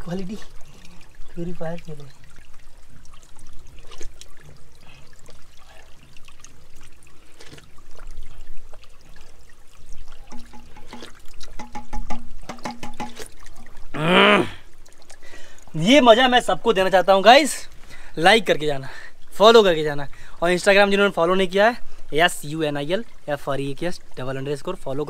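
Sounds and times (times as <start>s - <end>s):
water trickling over rocks: 0.0s - 25.0s.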